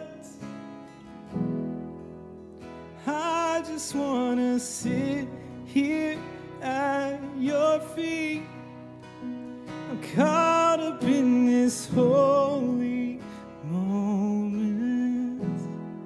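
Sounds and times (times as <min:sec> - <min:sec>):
man singing: 0:00.0 - 0:00.6, 0:03.0 - 0:09.0, 0:09.7 - 0:16.0
acoustic guitar: 0:00.0 - 0:16.0.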